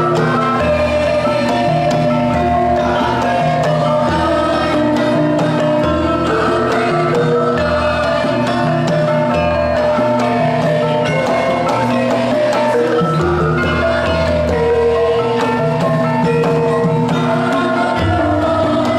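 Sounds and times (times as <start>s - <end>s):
hand drum beating: 0.0s - 18.9s.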